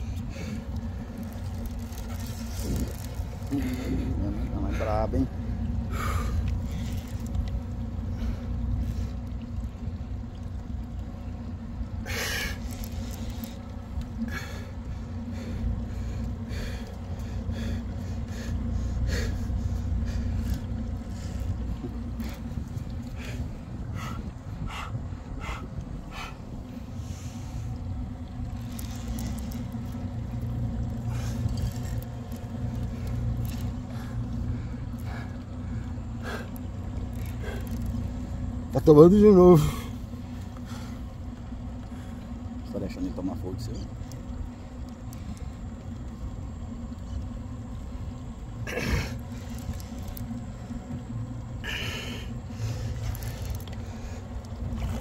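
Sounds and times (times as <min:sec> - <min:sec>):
boat motor rumbling: 0:00.0 - 0:55.0.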